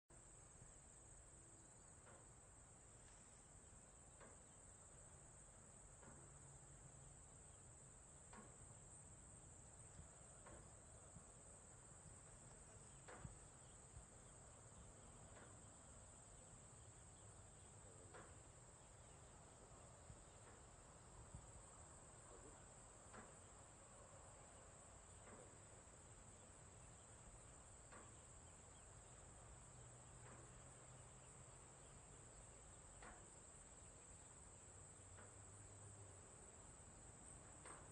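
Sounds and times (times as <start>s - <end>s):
crickets chirping: 0.1s - 37.9s.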